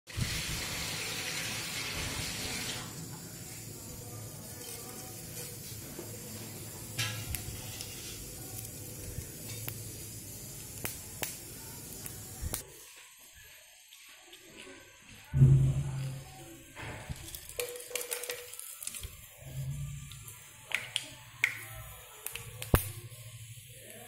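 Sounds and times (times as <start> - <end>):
oil sizzling in a wok: 0.1 - 24.0.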